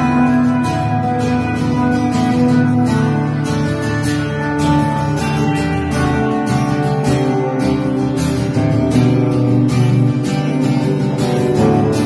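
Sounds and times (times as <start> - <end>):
acoustic guitar strumming: 0.0 - 12.0
electric lead guitar: 0.0 - 12.0.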